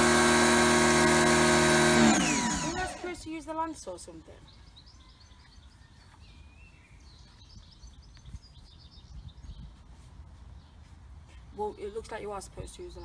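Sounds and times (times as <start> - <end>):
small birds chirping: 2.2 - 13.0.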